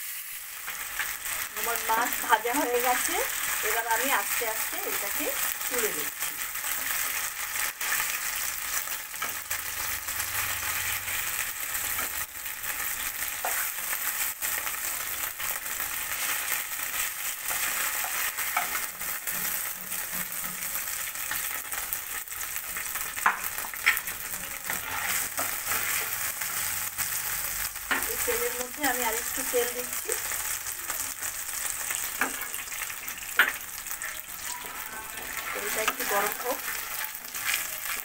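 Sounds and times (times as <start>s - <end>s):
fish frying hiss: 0.0s - 38.0s.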